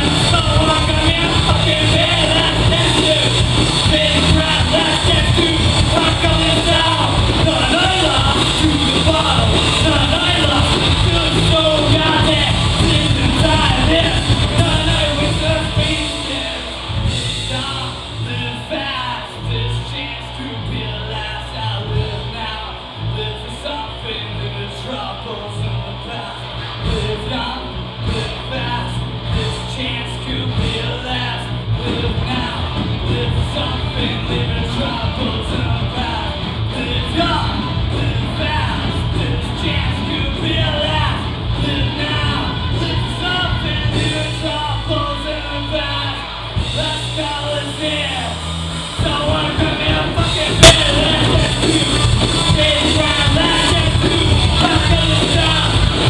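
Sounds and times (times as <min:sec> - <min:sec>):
person singing: 0:00.0 - 0:56.0
rock band playing live: 0:00.0 - 0:56.0.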